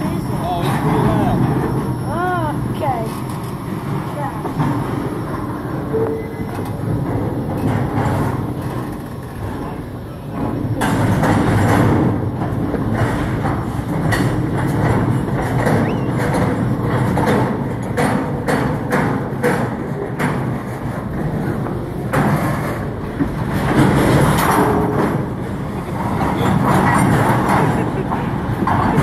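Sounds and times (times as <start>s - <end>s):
sharp clicks and clanks: 0.0s - 29.0s
train wheels rumbling on rail: 0.0s - 29.0s.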